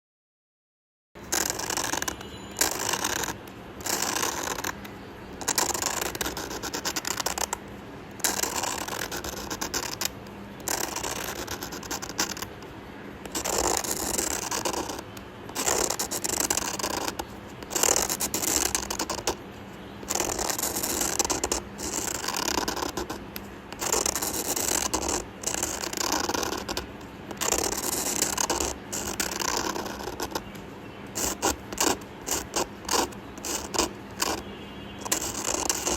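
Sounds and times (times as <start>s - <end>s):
drawing tool scratching paper: 1.2s - 35.9s.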